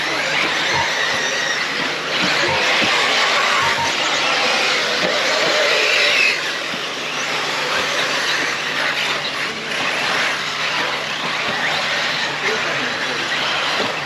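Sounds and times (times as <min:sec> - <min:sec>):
electric motor and gear whine: 0:00.0 - 0:14.0.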